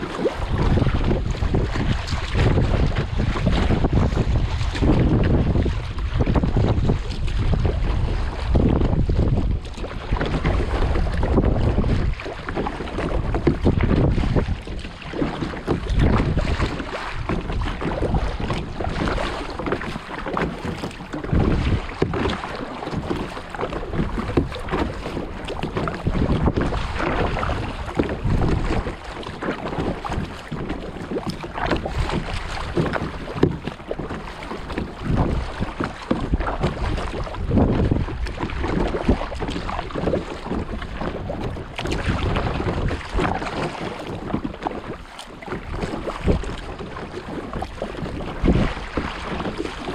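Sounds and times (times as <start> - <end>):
water splashing and lapping: 0.0 - 49.9
wind rumbling on microphone: 0.0 - 49.9.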